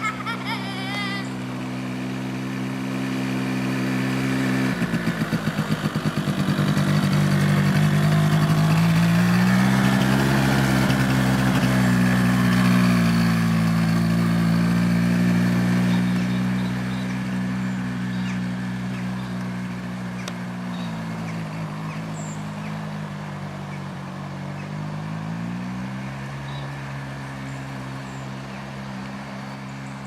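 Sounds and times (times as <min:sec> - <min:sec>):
quad bike engine: 0:00.0 - 0:30.0.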